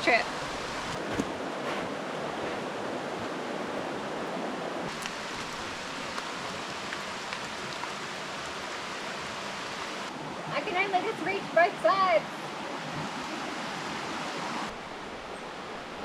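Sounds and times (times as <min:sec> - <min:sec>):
creek and waterfall rushing: 0:00.0 - 0:16.0.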